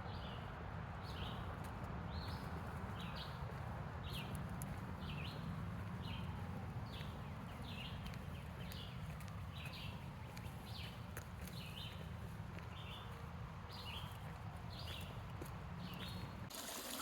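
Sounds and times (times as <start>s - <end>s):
footsteps on trail: 1.6s - 17.0s.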